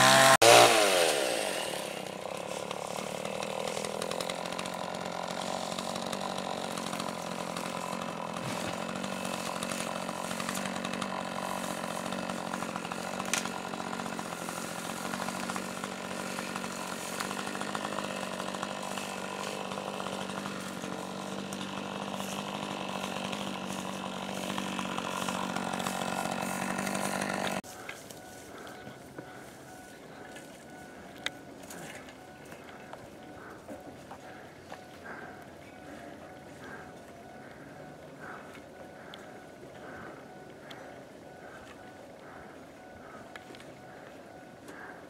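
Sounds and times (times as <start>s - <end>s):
chainsaw running: 0.0s - 45.0s.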